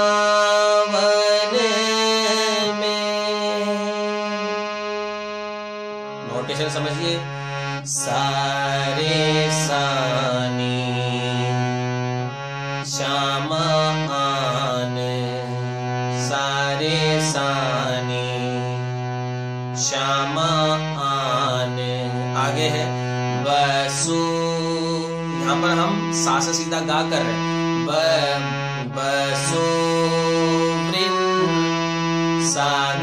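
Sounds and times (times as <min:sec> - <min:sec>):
man singing: 0:00.0 - 0:05.0, 0:06.2 - 0:33.0
harmonium playing devotional melody: 0:00.0 - 0:33.0.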